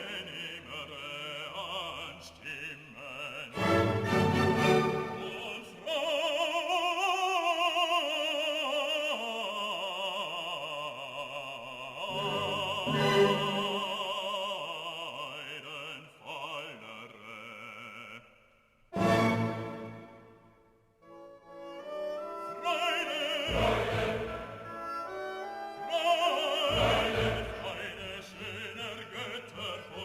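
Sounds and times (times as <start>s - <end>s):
operatic voice singing: 0.0s - 18.3s, 22.2s - 30.0s.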